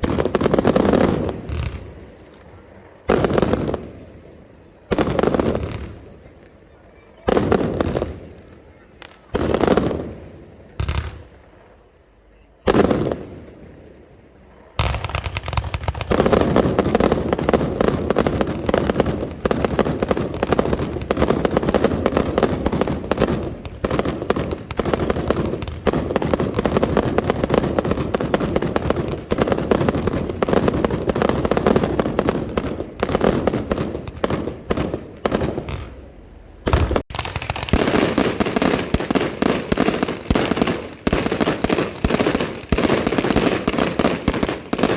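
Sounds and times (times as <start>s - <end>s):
fireworks bangs and crackling: 0.0s - 44.9s
fireworks booming: 0.0s - 44.9s.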